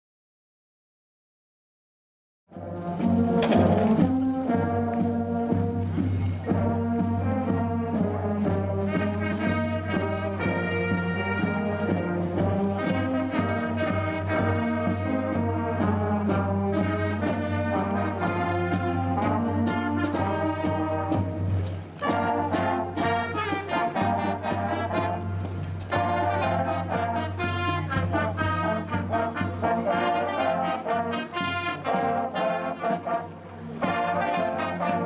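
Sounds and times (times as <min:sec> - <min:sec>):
brass marching band playing: 0:02.5 - 0:35.0.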